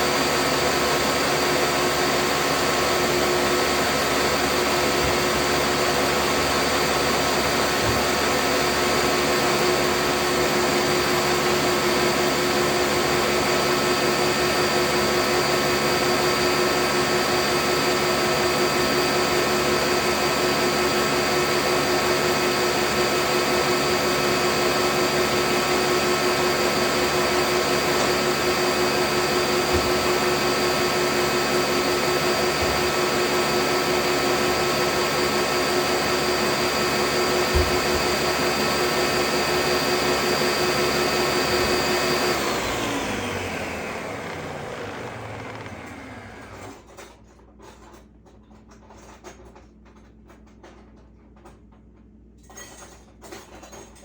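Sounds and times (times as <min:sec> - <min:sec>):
electric blender running: 0:00.0 - 0:46.9.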